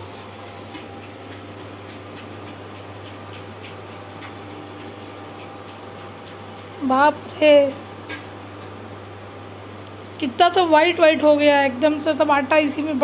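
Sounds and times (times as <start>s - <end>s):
cooktop low hum with hiss: 0.0s - 13.0s.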